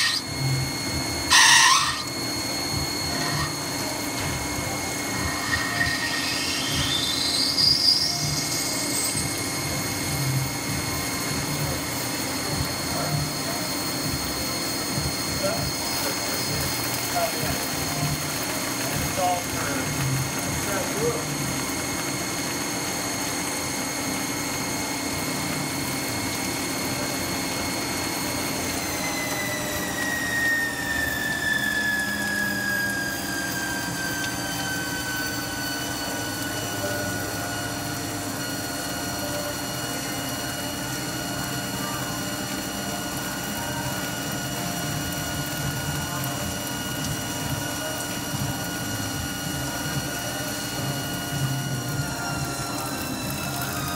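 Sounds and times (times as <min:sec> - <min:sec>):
lathe spindle whine: 0:00.0 - 0:53.9
metal cutting noise: 0:00.0 - 0:53.9.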